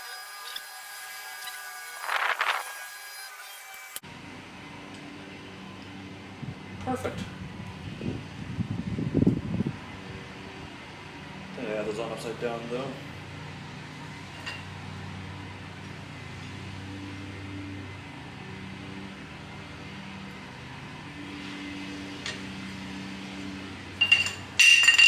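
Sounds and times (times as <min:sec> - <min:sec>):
fan humming: 0:00.0 - 0:25.0.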